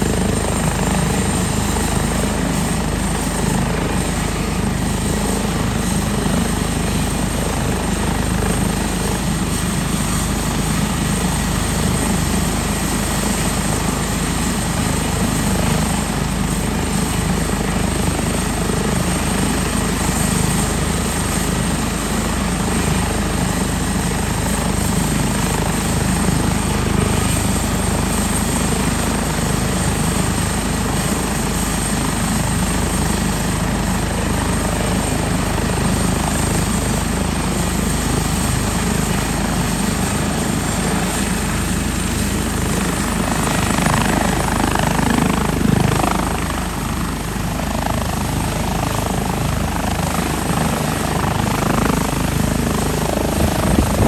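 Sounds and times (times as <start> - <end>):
helicopter turbine and rotor noise: 0.0 - 54.0.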